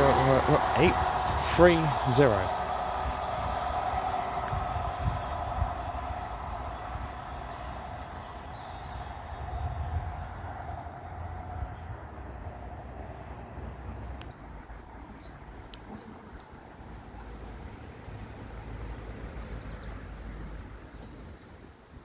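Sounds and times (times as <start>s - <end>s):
train running on rails: 0.0s - 20.1s.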